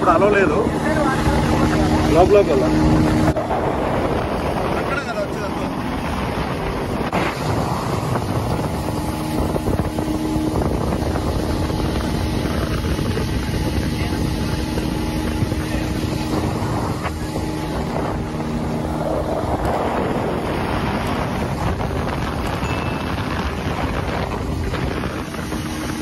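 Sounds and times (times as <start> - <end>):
speedboat motor running: 0.0 - 26.0
water rushing past hull: 0.0 - 26.0
wind buffeting microphone: 0.0 - 26.0.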